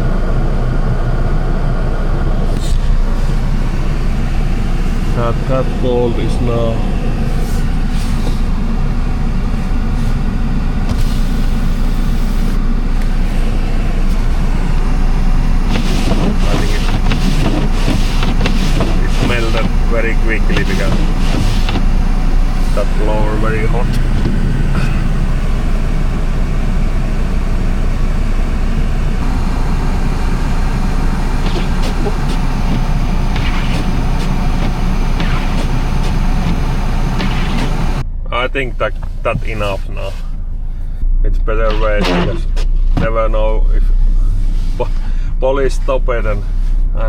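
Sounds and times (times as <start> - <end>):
car engine idling: 0.0 - 47.0
car heater blower rumble: 0.0 - 47.0.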